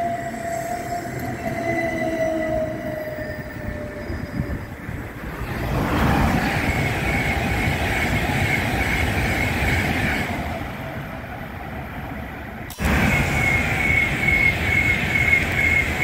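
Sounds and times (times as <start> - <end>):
high train whine: 0.0 - 16.0
train wheel and track rumble: 0.0 - 16.0.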